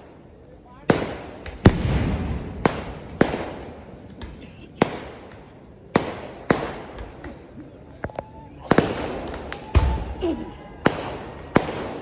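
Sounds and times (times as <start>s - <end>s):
fireworks bangs: 0.0s - 12.0s
low rumbling echo: 0.0s - 12.0s.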